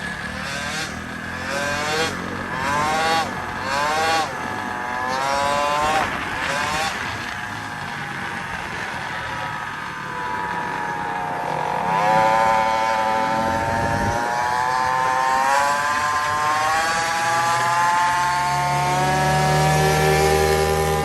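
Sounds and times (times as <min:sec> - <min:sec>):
deeper engine hum: 0:00.0 - 0:21.0
motorbike engine revving: 0:00.0 - 0:21.0.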